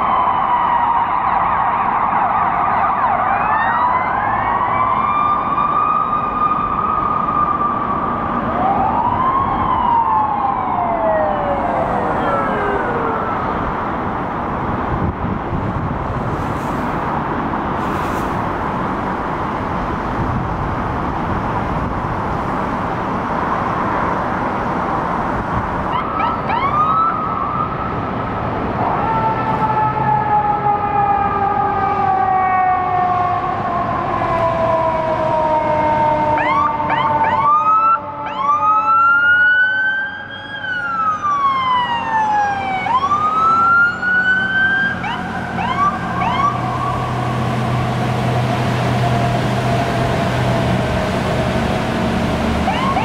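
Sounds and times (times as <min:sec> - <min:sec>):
emergency siren wailing: 0:00.0 - 0:16.2, 0:24.7 - 0:53.0
city traffic noise: 0:00.0 - 0:53.0.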